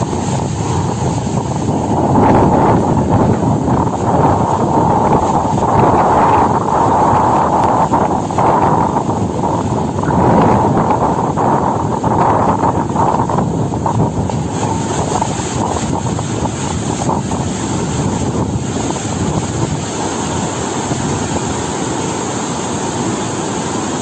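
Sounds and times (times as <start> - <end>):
floodwater rushing through stream: 0.0 - 24.0.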